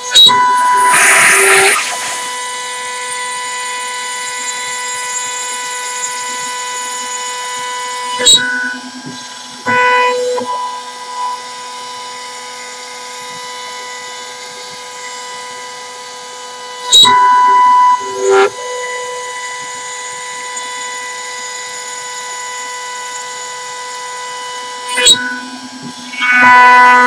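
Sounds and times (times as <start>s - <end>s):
router spindle whine: 0.0s - 27.0s.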